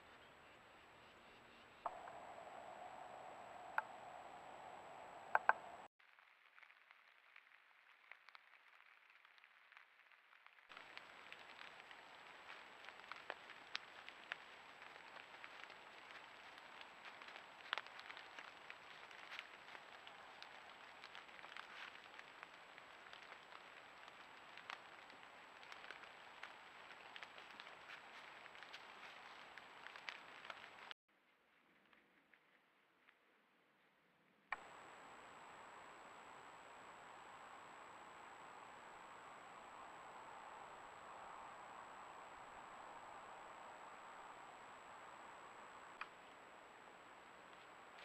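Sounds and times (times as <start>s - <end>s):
faint hiss with crackles: 0.0s - 31.0s, 34.5s - 48.0s.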